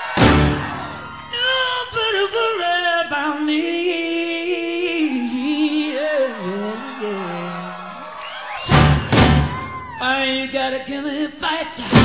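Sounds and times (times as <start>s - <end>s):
pop-rock song with singer: 1.1s - 12.0s.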